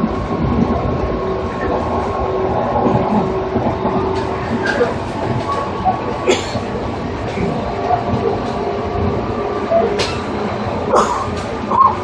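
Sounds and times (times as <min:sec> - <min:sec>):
train motor hum: 0:00.0 - 0:12.0
wheels rumbling: 0:00.0 - 0:12.0.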